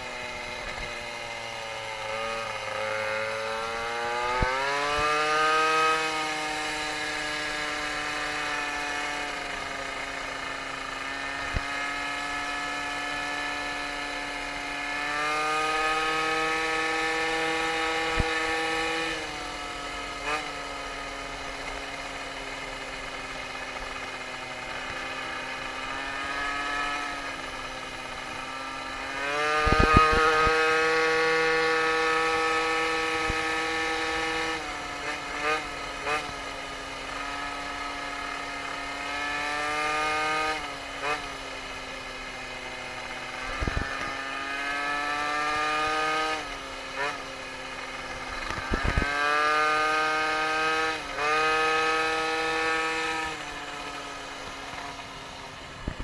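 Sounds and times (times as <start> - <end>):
moped engine buzzing: 0.0 - 56.0.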